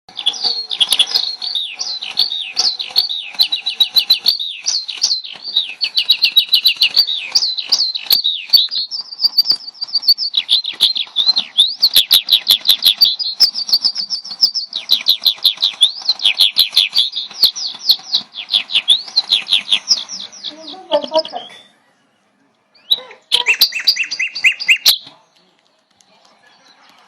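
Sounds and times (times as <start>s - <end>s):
recorded bird chirping from speaker: 0.1s - 27.0s.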